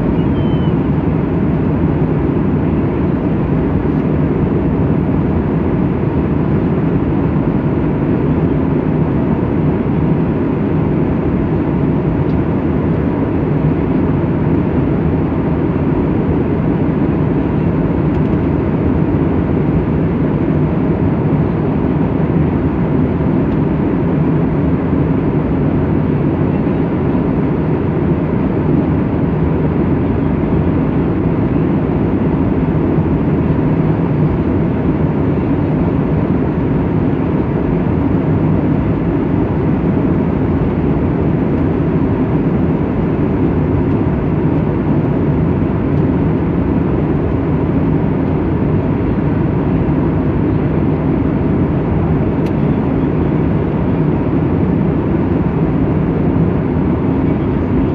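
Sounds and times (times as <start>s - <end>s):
airliner cabin engine rush: 0.0s - 57.9s.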